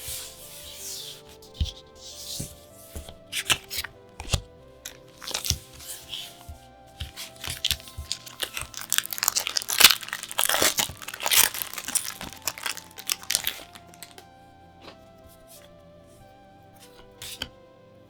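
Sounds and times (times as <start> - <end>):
plastic and foil packaging crinkling: 0.0 - 15.7.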